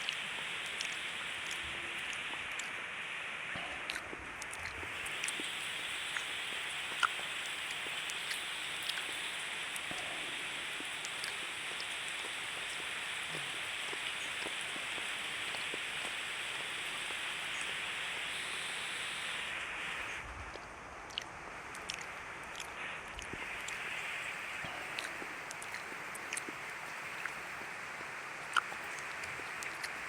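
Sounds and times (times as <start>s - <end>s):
heavy rain falling: 0.0s - 20.9s, 21.6s - 30.0s.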